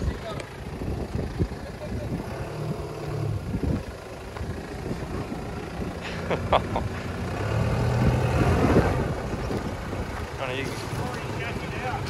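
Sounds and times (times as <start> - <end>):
off-road vehicle engine low revs: 0.0 - 12.0.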